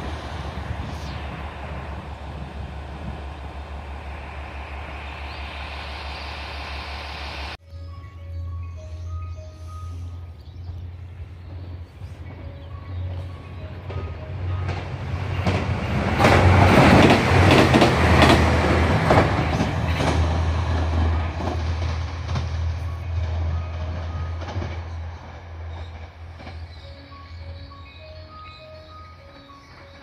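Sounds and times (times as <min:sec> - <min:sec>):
diesel engine rumbling: 0:00.0 - 0:30.0.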